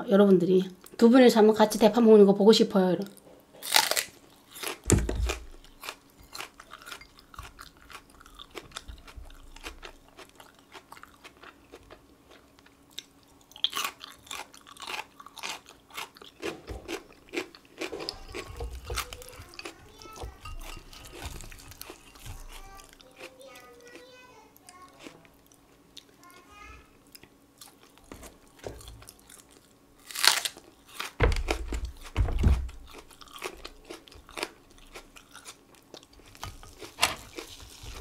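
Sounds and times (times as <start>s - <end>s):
crunching and chewing: 3.6s - 38.0s.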